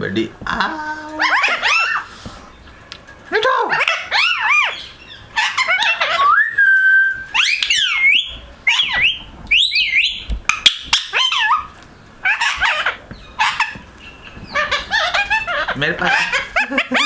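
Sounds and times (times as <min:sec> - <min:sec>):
parrot calling and whistling: 0:00.5 - 0:02.2, 0:03.7 - 0:17.0.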